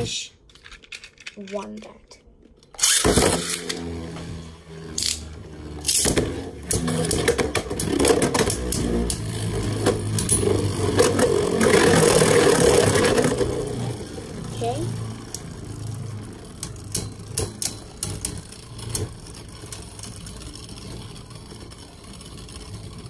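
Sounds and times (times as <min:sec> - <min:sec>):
spinning tops whirring: 0:02.7 - 0:23.0.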